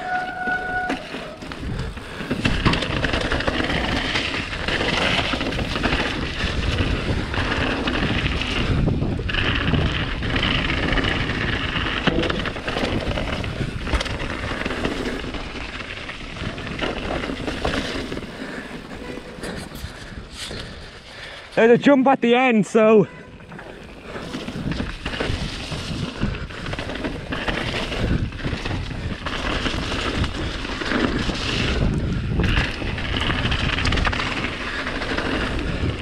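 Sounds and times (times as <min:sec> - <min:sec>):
wind rushing over microphone: 0:00.0 - 0:21.1, 0:23.4 - 0:36.0
bike rattling over stones: 0:00.0 - 0:21.6, 0:23.4 - 0:36.0.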